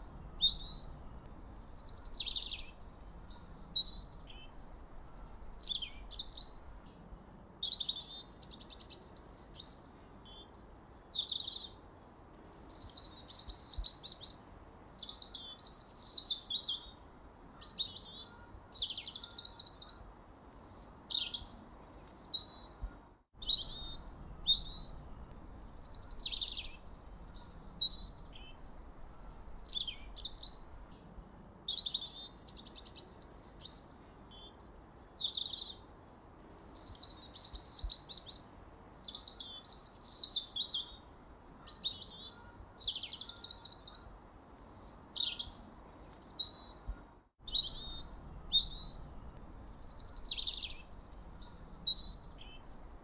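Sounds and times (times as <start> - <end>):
birdsong chirps and trills: 0.0 - 11.8, 12.4 - 35.8, 36.4 - 53.0
faint steady hiss: 0.0 - 19.0, 19.6 - 41.7, 44.0 - 53.0.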